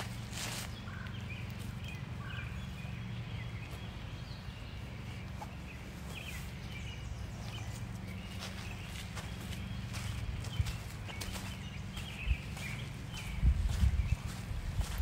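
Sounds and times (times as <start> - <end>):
birds chirping: 0.0 - 15.0
footsteps on dirt road: 0.0 - 15.0
steady low rumble: 0.0 - 15.0.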